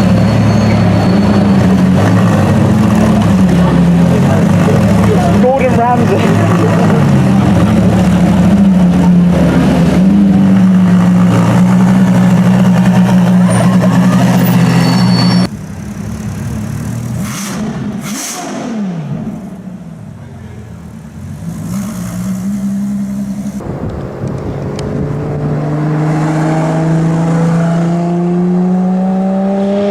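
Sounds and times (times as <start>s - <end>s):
sports car engine droning: 0.0s - 29.9s.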